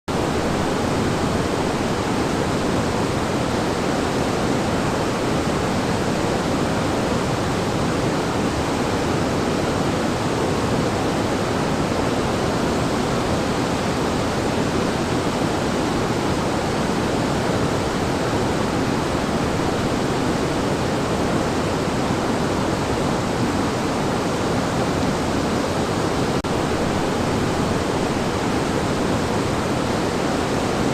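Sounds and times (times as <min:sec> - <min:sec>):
river water rushing: 0:00.1 - 0:30.9.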